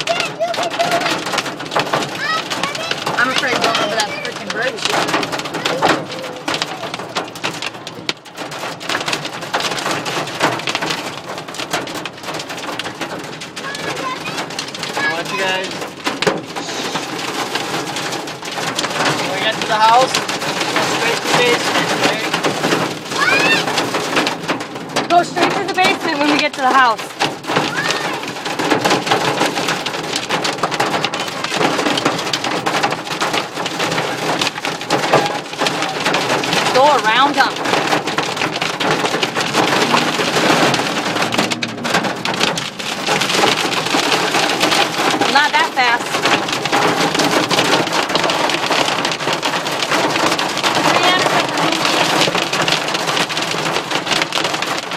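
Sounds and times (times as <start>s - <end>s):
hail drumming on car roof: 0.0s - 54.9s.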